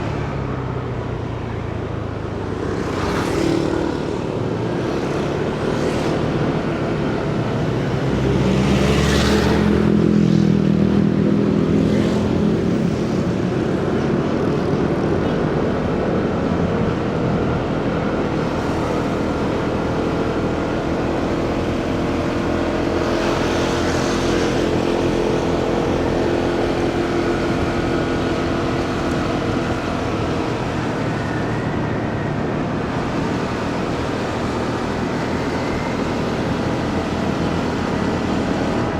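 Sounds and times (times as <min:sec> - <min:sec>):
road and wind noise: 0:00.0 - 0:38.9
vehicles passing: 0:00.0 - 0:38.9.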